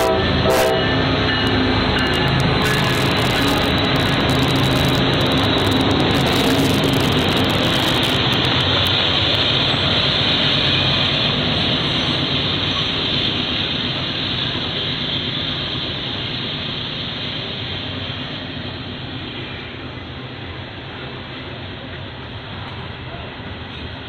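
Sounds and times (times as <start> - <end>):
diesel locomotive rumble: 0.0 - 24.0
freight cars rolling on rails: 0.0 - 24.0.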